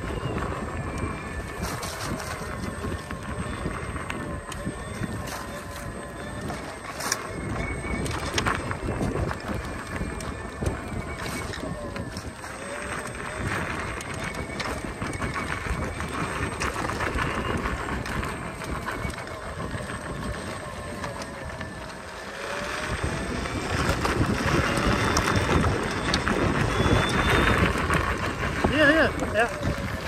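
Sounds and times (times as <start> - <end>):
electric motor whine: 0.0 - 30.0
tyres crunching on gravel: 0.0 - 30.0
wind on microphone: 0.0 - 30.0.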